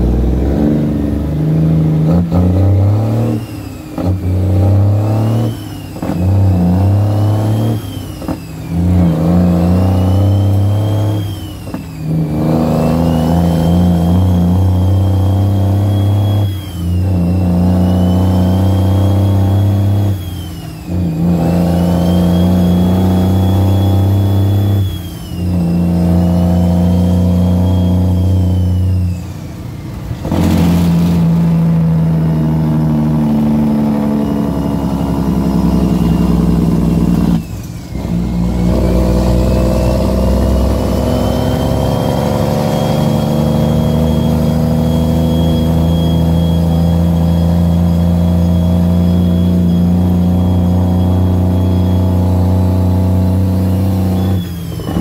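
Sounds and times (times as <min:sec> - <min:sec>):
diesel truck engine accelerating: 0:00.0 - 0:55.0
turbo whistle: 0:00.0 - 0:55.0.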